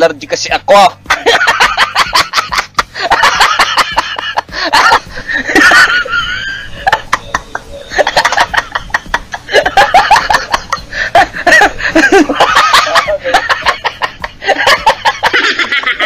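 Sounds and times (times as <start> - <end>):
group of people laughing: 1.1 - 16.0.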